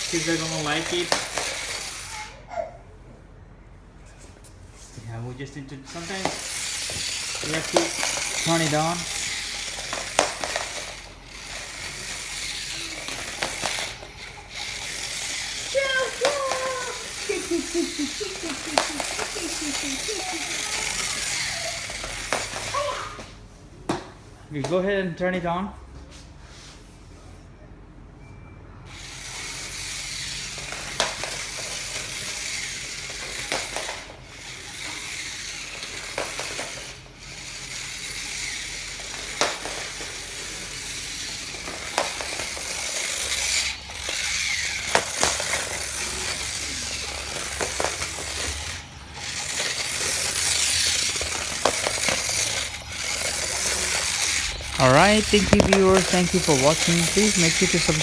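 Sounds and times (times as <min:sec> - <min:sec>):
toy train clicking on track: 0:00.0 - 0:02.7, 0:05.9 - 0:23.3, 0:28.9 - 0:58.0
toy train motor whirring: 0:00.0 - 0:02.8, 0:05.1 - 0:23.4, 0:28.9 - 0:58.0.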